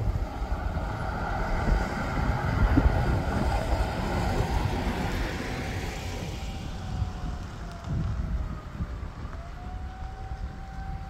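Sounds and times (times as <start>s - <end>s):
strong wind gusting on microphone: 0.0s - 11.0s.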